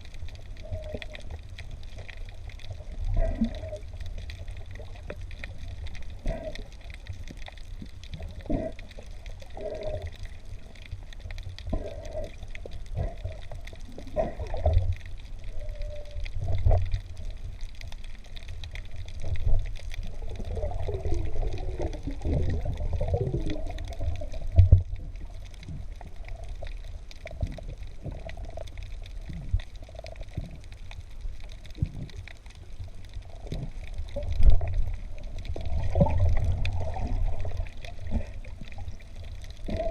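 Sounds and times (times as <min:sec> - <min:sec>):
sea water sloshing and gurgling: 0:00.0 - 0:39.9
water bubbling: 0:00.0 - 0:39.9.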